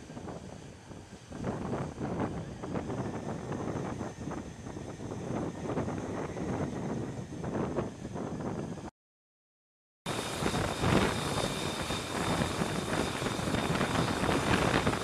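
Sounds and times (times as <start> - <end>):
jet engine rushing and whining: 0.0 - 8.9, 10.1 - 15.0
wind noise: 0.0 - 8.9, 10.1 - 15.0.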